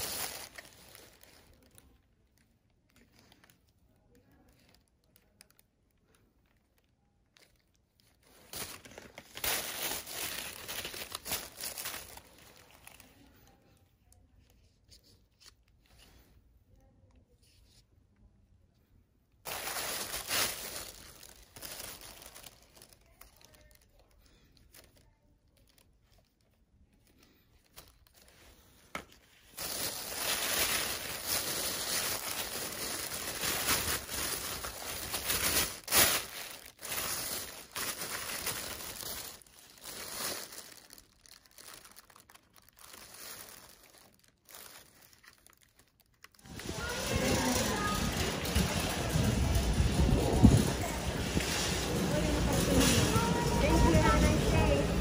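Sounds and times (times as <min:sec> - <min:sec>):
plastic bag crinkling: 0:00.0 - 0:14.8, 0:19.4 - 0:55.0.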